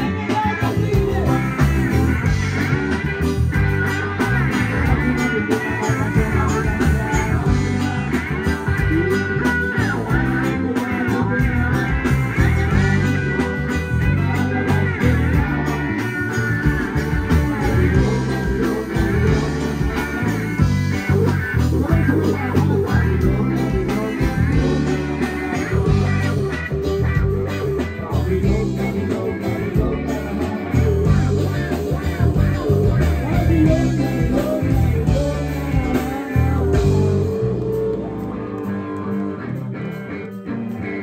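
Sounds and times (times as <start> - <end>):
heavy rhythmic electric bass: 0.0 - 41.0
live reggae band playing: 0.0 - 41.0.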